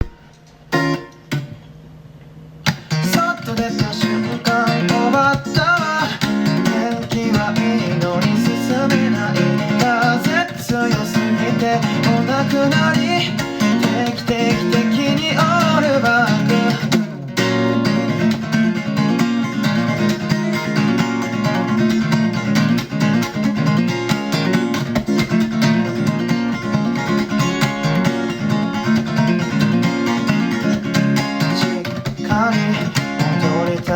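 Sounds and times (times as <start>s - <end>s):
acoustic guitar strummed: 0.0s - 1.9s, 2.6s - 33.9s.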